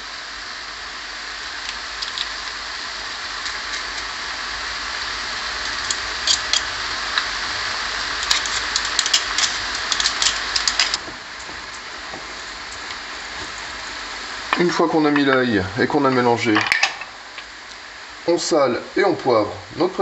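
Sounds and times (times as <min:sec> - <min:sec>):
onions sizzling in a frying pan: 0:00.0 - 0:20.0.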